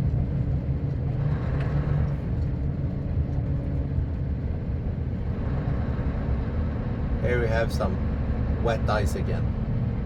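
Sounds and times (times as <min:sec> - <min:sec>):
truck engine and road rumble: 0:00.0 - 0:10.0.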